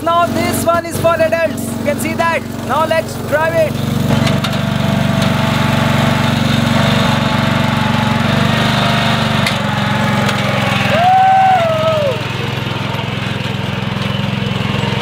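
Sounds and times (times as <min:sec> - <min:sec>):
small tractor engine running: 0:00.0 - 0:15.0.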